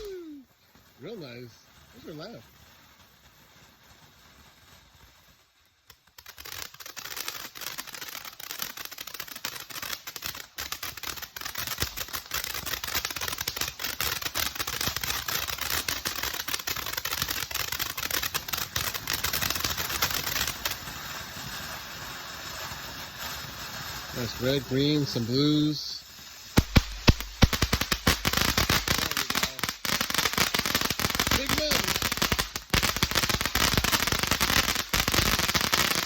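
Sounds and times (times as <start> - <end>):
firework crackling and hissing: 0.0 - 36.0.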